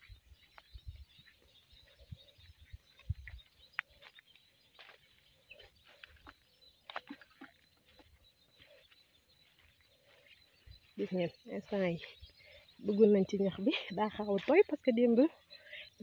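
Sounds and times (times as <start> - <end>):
bird chirps: 0.0 - 16.0
footsteps on a dirt path: 0.0 - 16.0.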